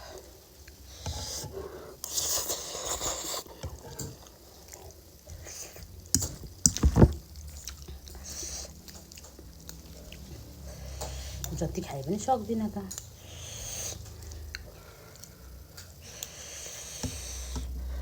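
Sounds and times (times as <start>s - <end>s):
person chewing and slurping noodles: 0.0s - 11.6s, 13.0s - 18.0s.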